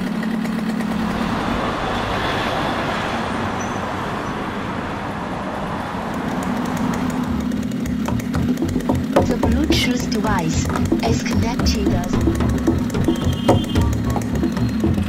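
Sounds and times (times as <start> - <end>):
motorbike engine hum: 0.0 - 15.0
road and wind noise: 0.0 - 15.0.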